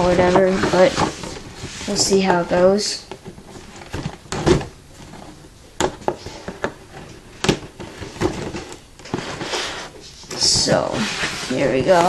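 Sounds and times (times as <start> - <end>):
cardboard rustling: 0.0 - 12.0.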